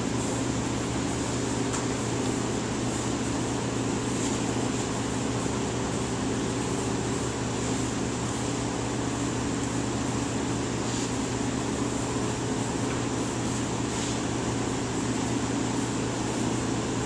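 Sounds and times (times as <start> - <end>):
heat press humming and whirring: 0.0 - 17.0.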